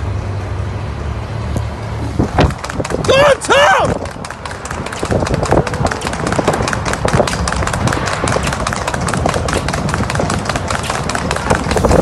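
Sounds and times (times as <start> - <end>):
low vehicle rumble: 0.0 - 12.0
hooves trotting on tarmac: 2.0 - 12.0.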